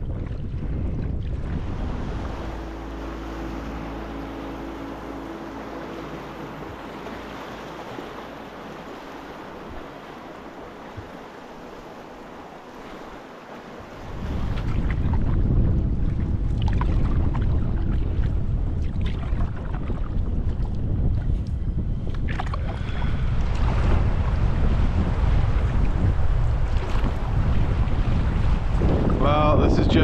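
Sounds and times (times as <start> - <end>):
rushing river water: 0.0 - 21.1, 22.2 - 30.0
wind buffeting microphone: 0.0 - 30.0.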